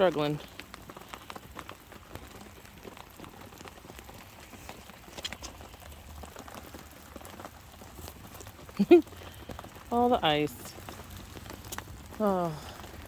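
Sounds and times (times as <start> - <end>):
drips ticking: 0.0 - 13.0
light rain pattering: 0.0 - 13.0.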